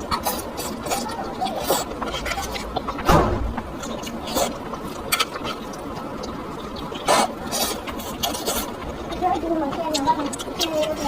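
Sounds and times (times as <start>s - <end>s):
wet chewing and slurping: 0.0s - 11.0s.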